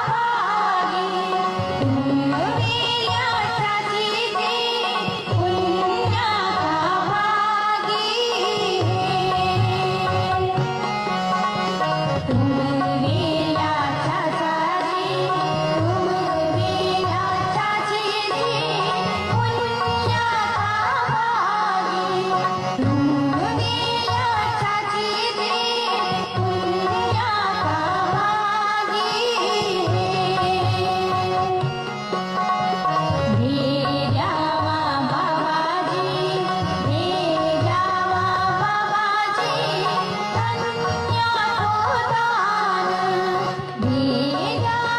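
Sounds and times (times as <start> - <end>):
tabla drumming: 0.0 - 44.9.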